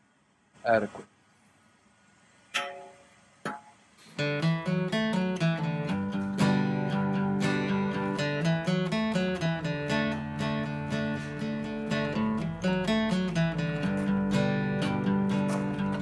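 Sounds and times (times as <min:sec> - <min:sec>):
acoustic guitar strummed and picked: 0:02.6 - 0:16.0.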